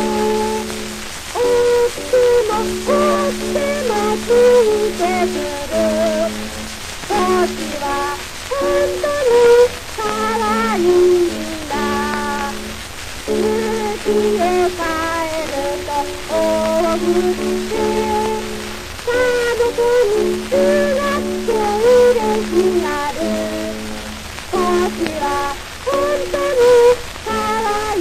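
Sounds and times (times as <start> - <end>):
person singing: 0.0 - 28.0
record surface hiss and crackle: 0.0 - 28.0.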